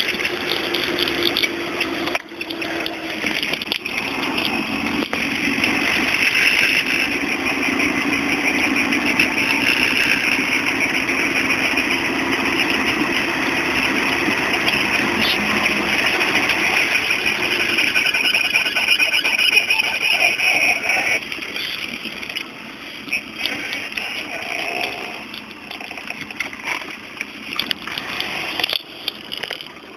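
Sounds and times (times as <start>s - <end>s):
car engine driving: 0.0s - 29.9s
suspension noise: 0.0s - 29.9s.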